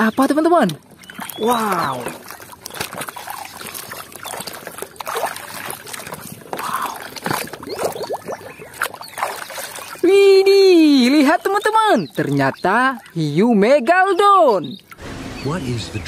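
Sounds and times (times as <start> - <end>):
water splashing in plastic tub: 0.0 - 15.1.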